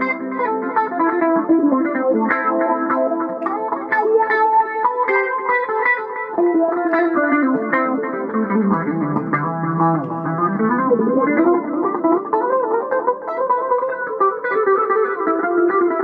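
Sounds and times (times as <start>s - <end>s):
clean electric guitar: 0.0s - 16.0s.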